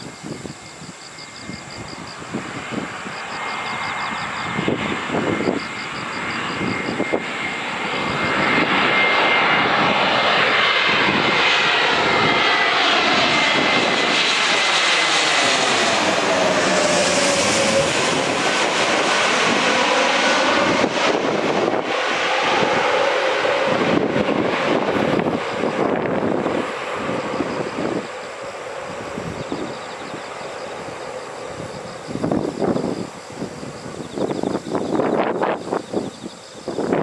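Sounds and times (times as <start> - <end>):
jet airliner engine noise: 0.0 - 37.0.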